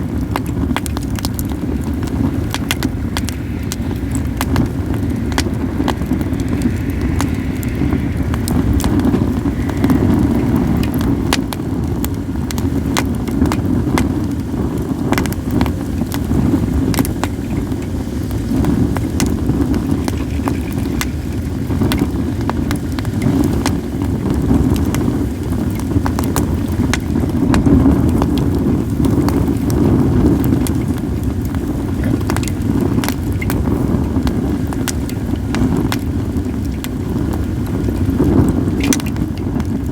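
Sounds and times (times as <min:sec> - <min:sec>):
wind on microphone: 0:00.0 - 0:39.9
wood fire crackling: 0:00.0 - 0:39.9.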